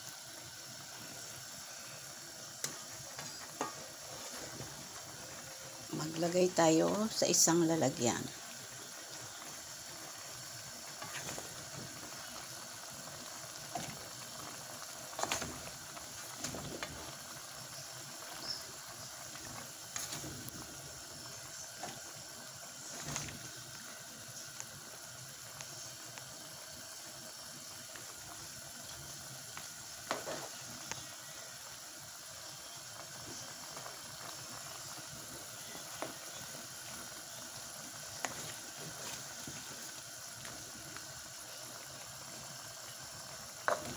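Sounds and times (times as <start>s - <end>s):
sauce sizzling and bubbling in pan: 0.0s - 43.9s.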